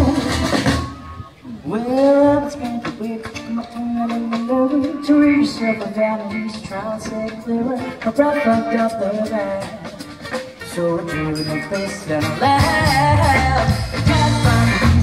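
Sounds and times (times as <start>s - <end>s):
strummed guitars: 0.0s - 15.0s.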